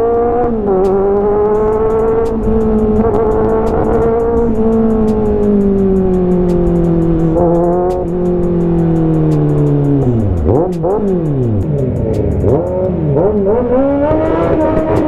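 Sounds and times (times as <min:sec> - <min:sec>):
background music with steady beat: 0:00.0 - 0:15.0
motorcycle engine revving: 0:00.0 - 0:15.0.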